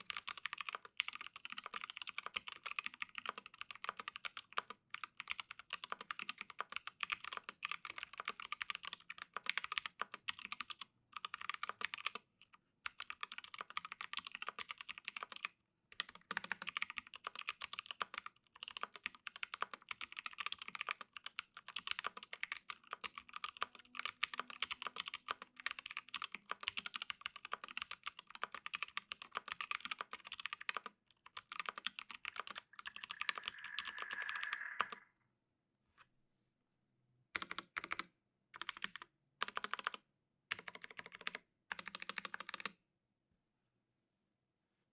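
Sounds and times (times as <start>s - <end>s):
mechanical keyboard typing: 0.0s - 12.2s, 12.9s - 35.0s, 37.4s - 42.7s.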